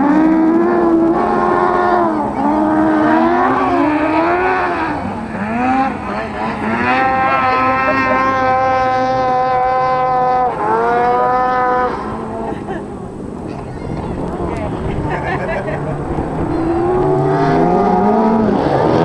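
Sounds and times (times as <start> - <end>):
racing buggy engines revving: 0.0 - 19.0.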